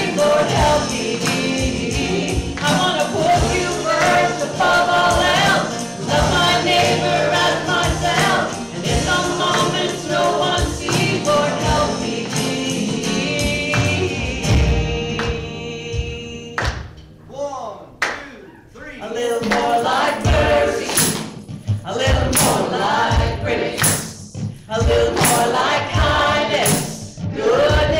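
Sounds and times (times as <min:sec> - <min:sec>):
group singing gospel music: 0:00.0 - 0:17.0, 0:19.0 - 0:27.9
percussion beat: 0:00.0 - 0:17.0, 0:19.2 - 0:27.9
band accompaniment: 0:00.0 - 0:17.3, 0:19.4 - 0:27.9.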